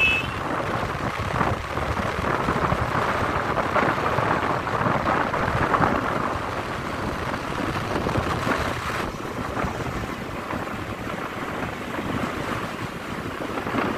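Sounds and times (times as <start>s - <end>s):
vehicle road noise: 0.0s - 13.9s
wind rushing on microphone: 0.0s - 13.9s.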